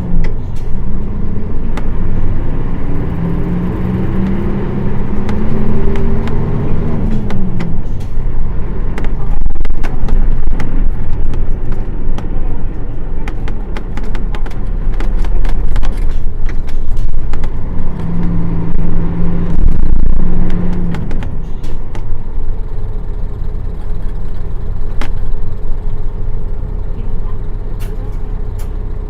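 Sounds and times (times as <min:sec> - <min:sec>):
rattles and clicks: 0:00.0 - 0:22.6, 0:23.2 - 0:26.2
diesel bus engine running: 0:00.0 - 0:29.0.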